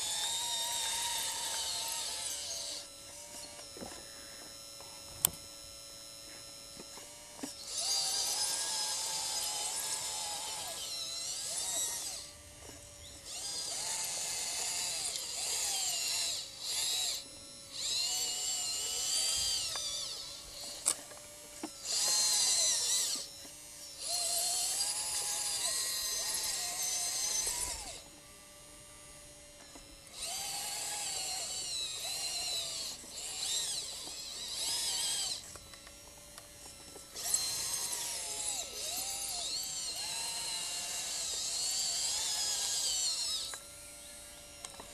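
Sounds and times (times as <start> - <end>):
electric motors whining: 0.0 - 44.9
faint steady hum: 0.0 - 44.9.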